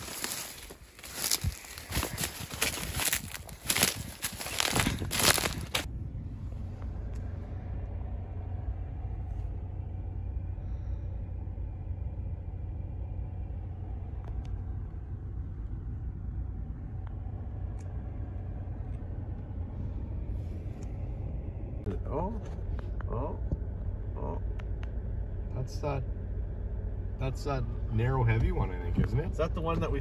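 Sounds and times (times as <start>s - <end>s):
pickup truck engine rumble: 0.0s - 30.0s.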